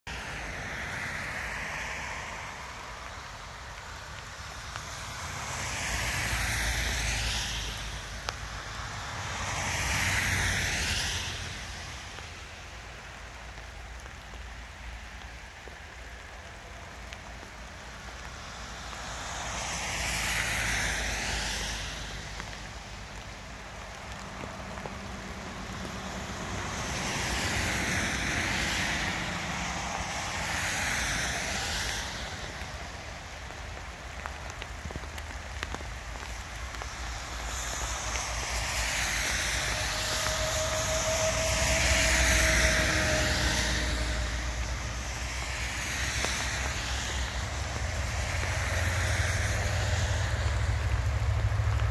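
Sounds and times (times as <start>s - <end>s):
traffic rumble: 0.0s - 51.9s
tyres hissing on wet road: 0.1s - 51.9s.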